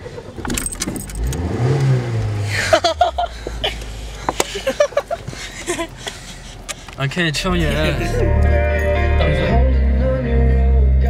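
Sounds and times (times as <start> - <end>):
car engine starting and idling: 0.0 - 10.5.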